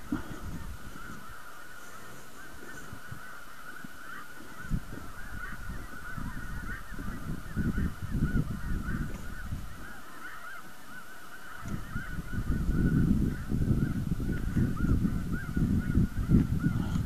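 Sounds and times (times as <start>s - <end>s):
flock of geese honking: 0.0s - 17.0s.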